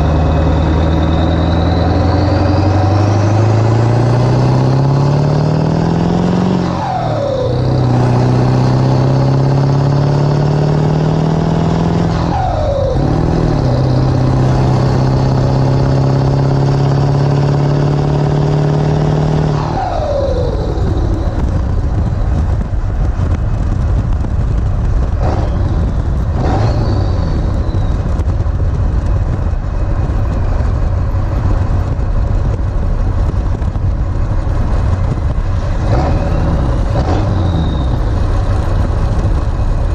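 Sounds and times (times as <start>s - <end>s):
diesel truck accelerating: 0.0s - 39.9s
road and wind noise: 0.0s - 39.9s.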